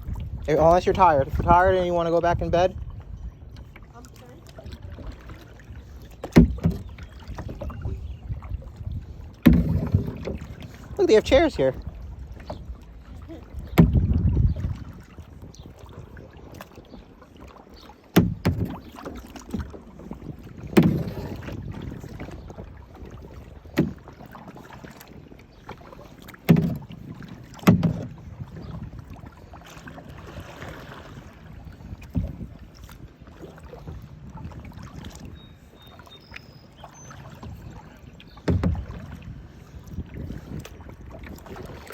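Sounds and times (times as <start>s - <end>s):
wind rumble on microphone: 0.0s - 17.2s, 18.2s - 24.1s, 26.6s - 35.7s, 37.3s - 41.9s
paddle knocking against hull: 0.0s - 41.9s
water swishing: 0.0s - 41.9s.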